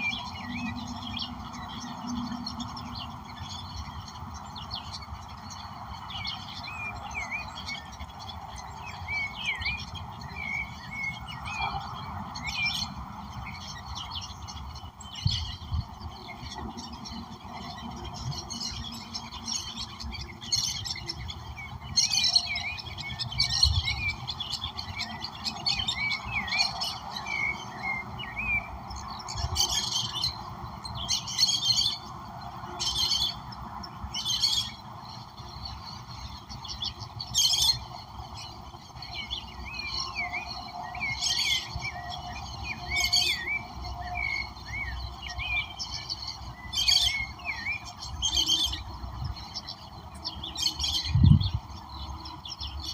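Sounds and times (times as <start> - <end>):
birds calling harshly: 0.0 - 52.9
birds twittering chirps: 0.0 - 52.9.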